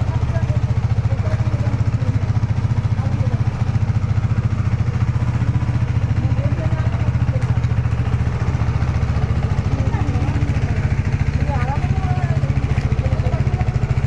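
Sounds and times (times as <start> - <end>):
scooter engine idling: 0.0 - 14.0.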